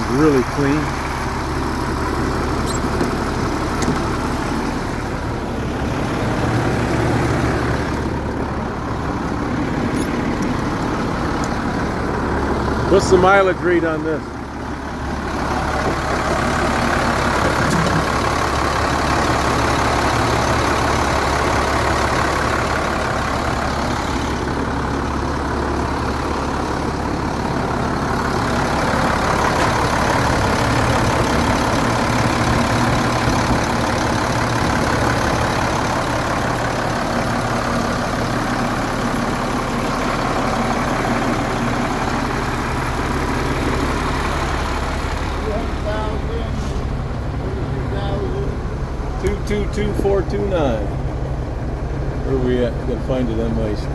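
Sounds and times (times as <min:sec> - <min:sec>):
diesel truck engine idling: 0:00.0 - 0:53.9.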